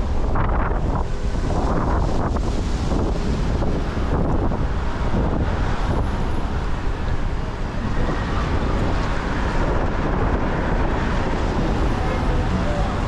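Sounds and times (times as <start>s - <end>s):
car driving on wet street: 0.0s - 13.0s
wind buffeting microphone: 0.0s - 13.0s.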